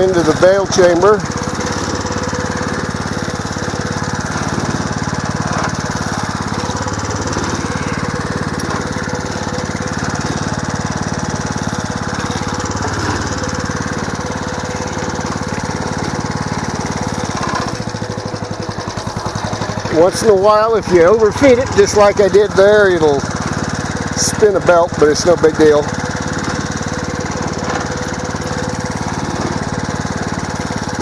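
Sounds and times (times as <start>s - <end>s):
hay press plunger: 0.0s - 31.0s
small engine running: 0.0s - 31.0s.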